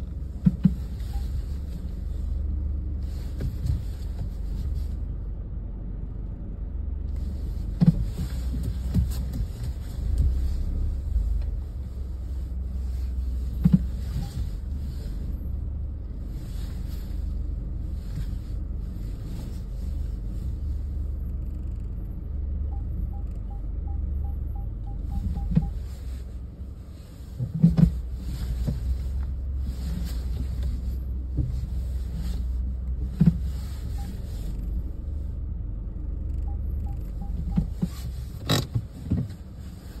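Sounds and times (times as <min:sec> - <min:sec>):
car engine rumbling at low speed: 0:00.0 - 0:40.0.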